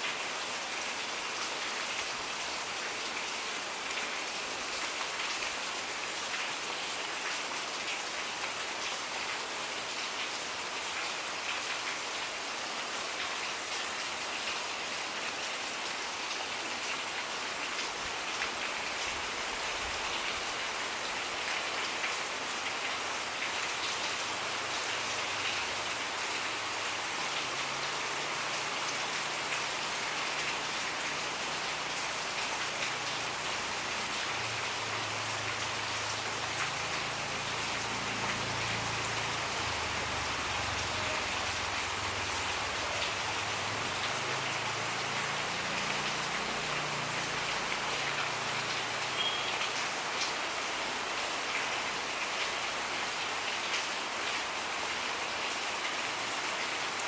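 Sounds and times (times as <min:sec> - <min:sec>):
raindrops pattering on surfaces: 0:00.0 - 0:57.0
steady rain falling: 0:00.0 - 0:57.0.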